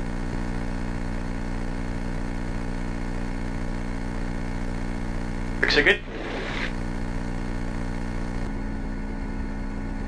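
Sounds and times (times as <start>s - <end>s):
light aircraft engine running: 0.0s - 10.0s.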